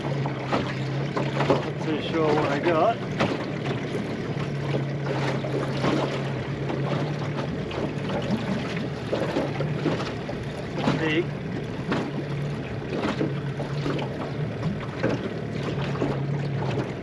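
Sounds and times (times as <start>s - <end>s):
outboard motor humming: 0.0s - 17.0s
water splashing against metal hull: 0.0s - 17.0s.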